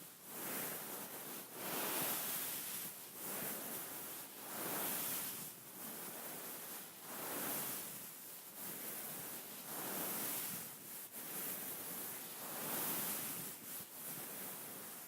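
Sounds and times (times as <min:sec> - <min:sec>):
hands rubbing beaded pillow: 0:00.3 - 0:15.0.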